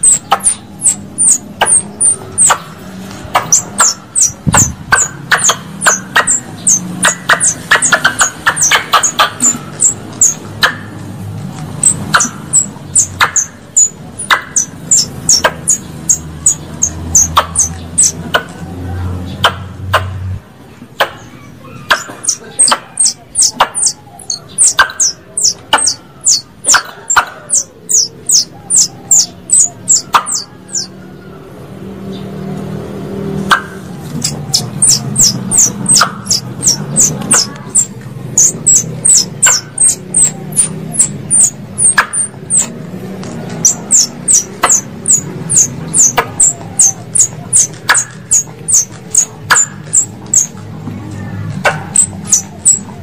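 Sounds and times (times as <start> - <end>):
squirrel calling sharp high chips: 0.0 - 11.0, 11.8 - 18.5, 21.0 - 30.9, 33.5 - 42.8, 43.5 - 50.6, 51.6 - 52.9.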